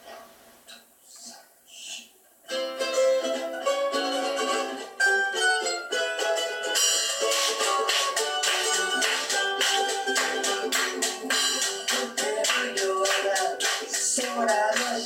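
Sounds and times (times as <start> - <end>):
acoustic band playing: 2.5 - 15.0
strummed strings: 2.5 - 15.0.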